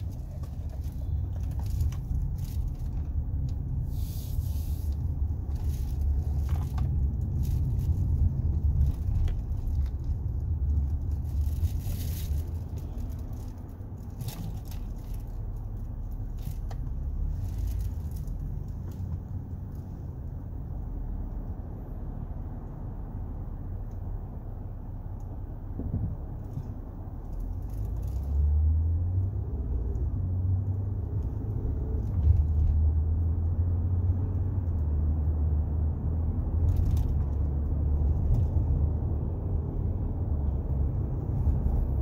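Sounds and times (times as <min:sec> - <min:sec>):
car road and engine rumble: 0:00.0 - 0:42.0.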